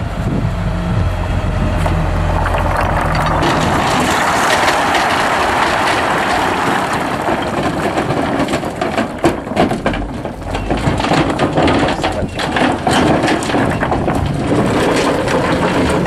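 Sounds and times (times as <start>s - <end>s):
rock sliding out of trailer: 1.8s - 16.0s
stones clattering onto pile: 1.8s - 16.0s.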